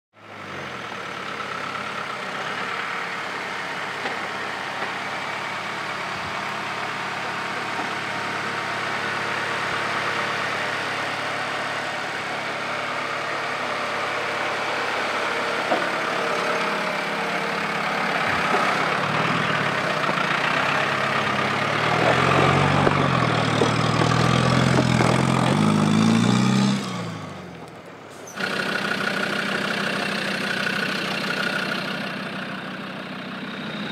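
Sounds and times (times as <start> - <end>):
engine revving: 0.2 - 33.9.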